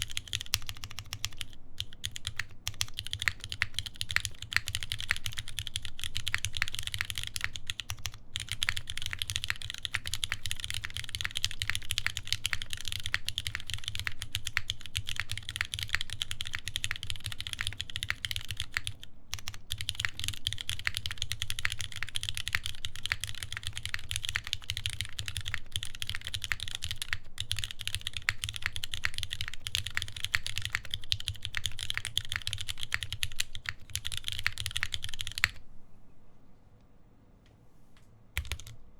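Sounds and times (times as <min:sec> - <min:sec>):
fast typing on mechanical keyboard: 0:00.0 - 0:35.6, 0:38.4 - 0:38.8.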